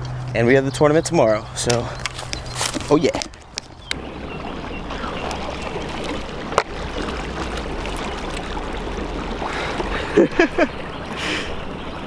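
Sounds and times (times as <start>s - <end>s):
boat engine rumble: 0.0s - 12.0s
water noise: 0.0s - 12.0s.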